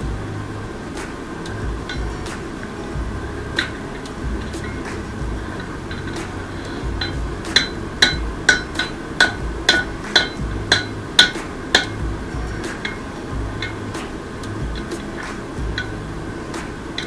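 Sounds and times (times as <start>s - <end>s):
hammer striking metal on anvil: 1.0s - 17.0s.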